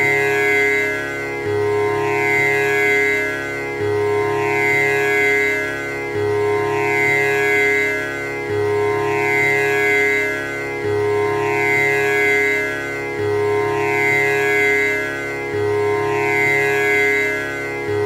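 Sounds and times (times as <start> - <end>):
tanpura drone: 0.0 - 18.0.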